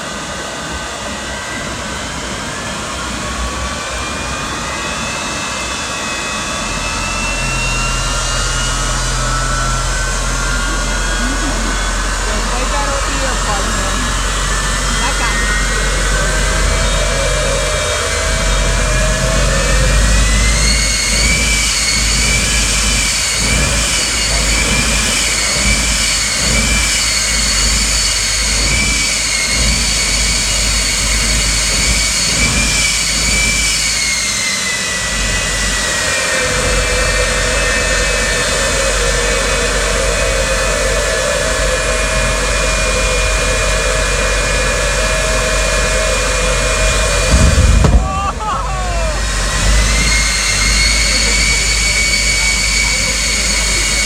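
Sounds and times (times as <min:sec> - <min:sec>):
jet engine turbine whine: 0:00.0 - 0:54.0.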